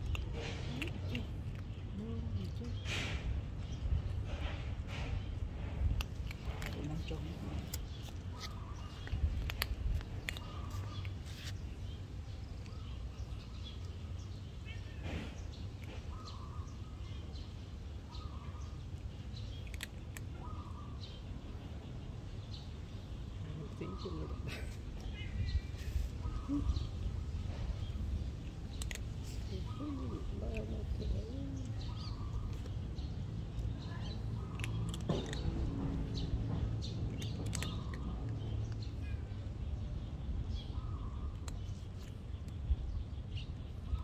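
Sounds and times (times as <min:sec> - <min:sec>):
cat crunching dry kibble: 0:00.0 - 0:26.2, 0:27.0 - 0:39.5, 0:41.2 - 0:42.8
birds chirping faintly: 0:00.0 - 0:44.0
low background rumble: 0:00.0 - 0:44.0.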